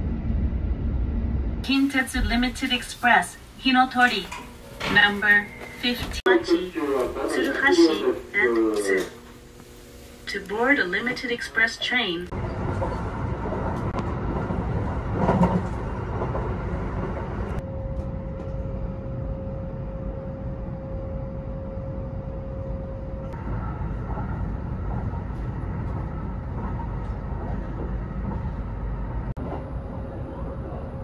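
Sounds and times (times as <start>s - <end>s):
train low rumble: 0.0s - 31.0s
train whine: 0.0s - 31.0s.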